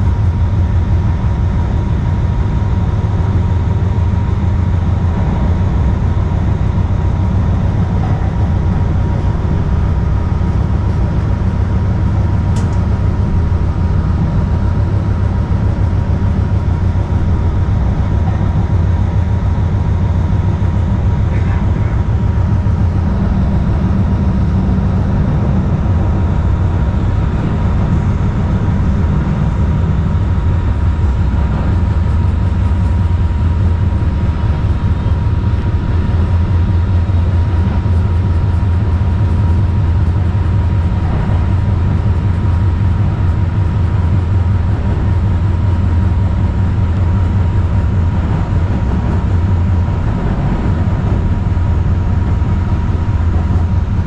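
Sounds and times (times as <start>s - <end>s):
light rail car rumbling: 0.0s - 54.0s
thin constant whine: 0.0s - 54.0s.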